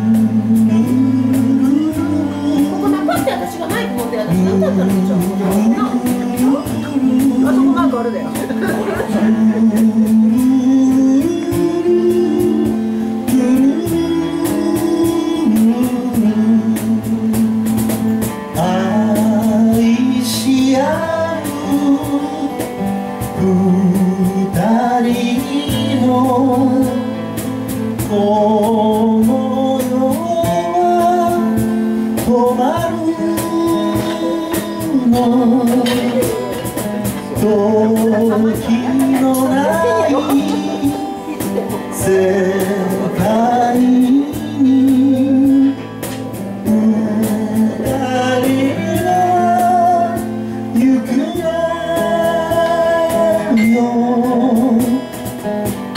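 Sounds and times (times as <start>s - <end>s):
man singing: 0.0s - 55.9s
strummed acoustic guitar: 0.0s - 55.9s.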